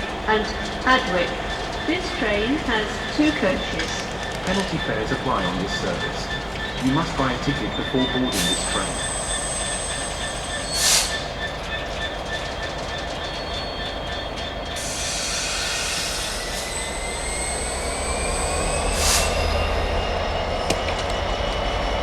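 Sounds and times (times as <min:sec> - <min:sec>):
train high-pitched whine: 0:00.0 - 0:22.0.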